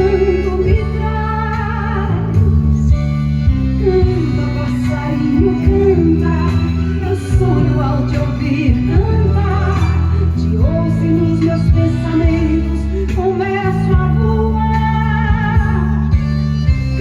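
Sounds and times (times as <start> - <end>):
bass line: 0.0 - 17.0
held chords: 0.0 - 17.0
person singing: 0.0 - 17.0.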